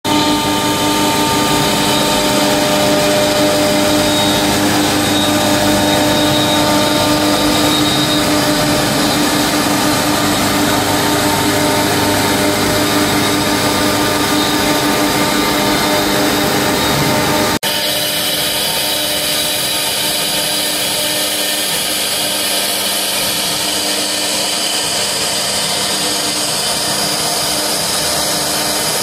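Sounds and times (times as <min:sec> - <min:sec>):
router spindle whine: 0:00.0 - 0:29.0
bit cutting plywood: 0:00.1 - 0:29.0.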